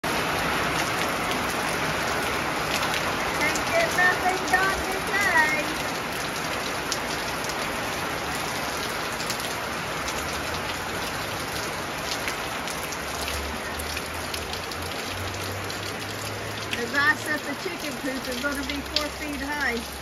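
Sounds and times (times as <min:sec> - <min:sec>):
heavy rain hissing: 0:00.0 - 0:20.0
raindrops tapping surfaces: 0:00.0 - 0:20.0.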